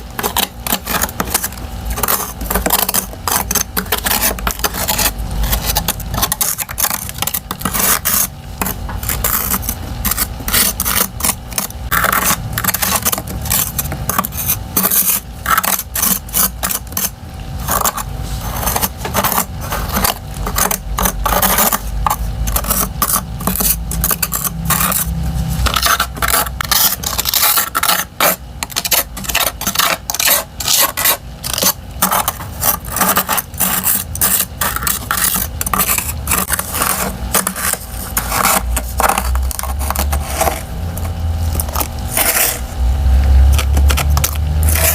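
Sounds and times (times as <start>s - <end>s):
frost and ice crunching: 0.0s - 44.9s.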